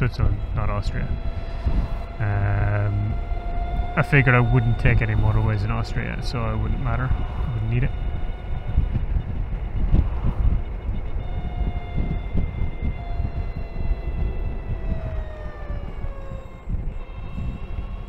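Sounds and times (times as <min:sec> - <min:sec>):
electric motorcycle motor whining: 0:00.0 - 0:18.0
wind rumble on microphone: 0:00.0 - 0:18.0.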